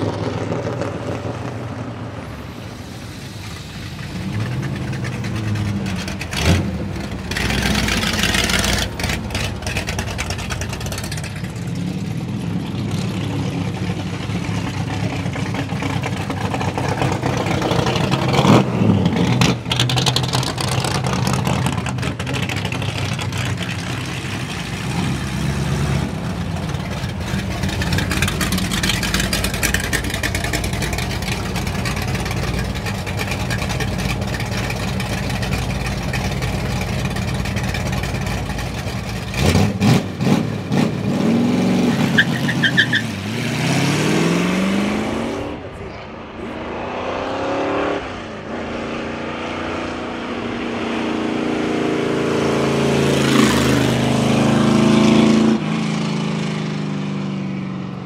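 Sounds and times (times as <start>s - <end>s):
race car engines idling and revving: 0.0s - 58.0s.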